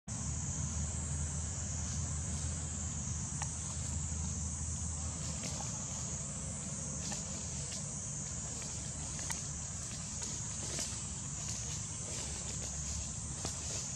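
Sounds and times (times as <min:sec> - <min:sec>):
high insect drone: 0:00.1 - 0:13.9.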